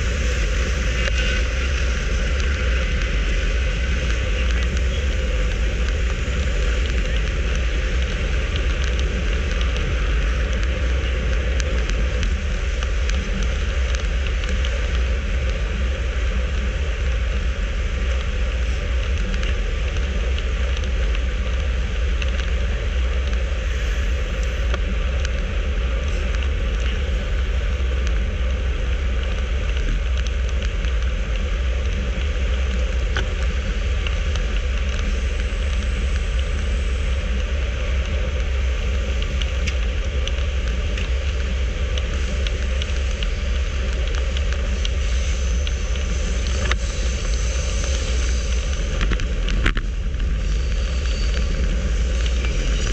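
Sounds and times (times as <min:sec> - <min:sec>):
bike tyre hum on asphalt: 0:00.0 - 0:52.9
wind buffeting microphone: 0:00.0 - 0:52.9.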